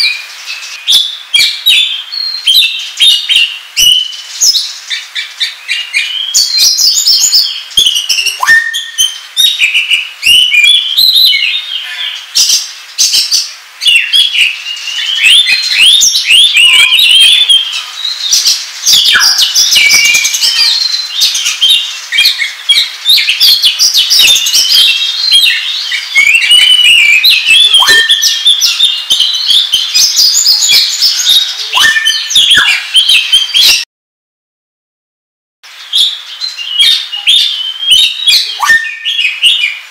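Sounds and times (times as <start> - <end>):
bird singing varied chirps: 0.0 - 33.9, 35.8 - 39.9.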